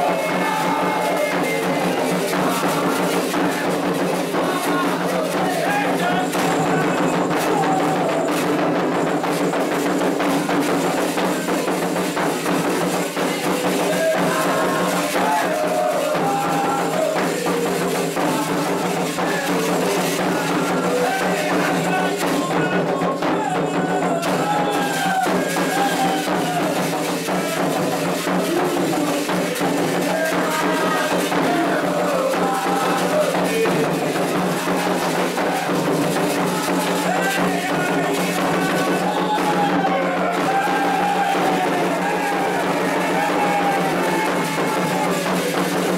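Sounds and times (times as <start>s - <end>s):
hand drums and percussion: 0.0s - 45.9s
voices singing a chant: 0.0s - 45.9s.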